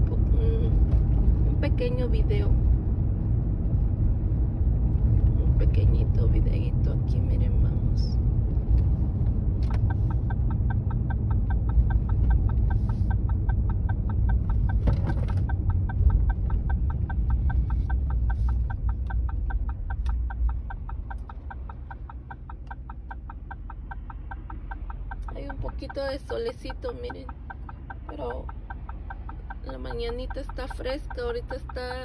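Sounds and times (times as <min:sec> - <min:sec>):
road noise: 0:00.0 - 0:32.0
truck engine rumble: 0:00.0 - 0:32.0
turn signal ticking: 0:00.0 - 0:32.0.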